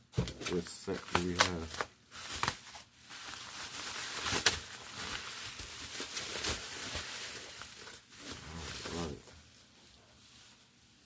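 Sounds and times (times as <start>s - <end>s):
wrapping rustling and crackling: 0.2s - 11.0s.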